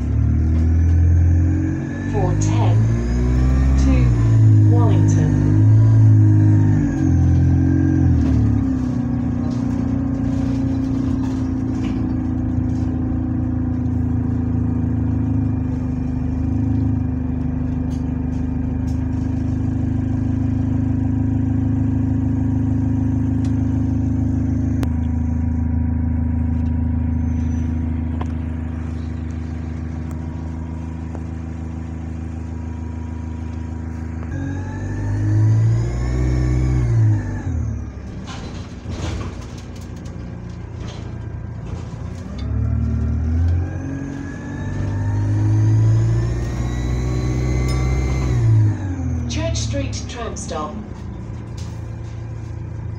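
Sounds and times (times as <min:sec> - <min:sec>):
bus diesel engine driving: 0:00.0 - 0:52.9.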